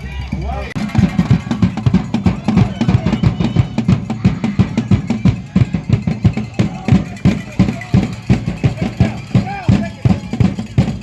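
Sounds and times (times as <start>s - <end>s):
drums beating low thuds: 0.0s - 11.0s.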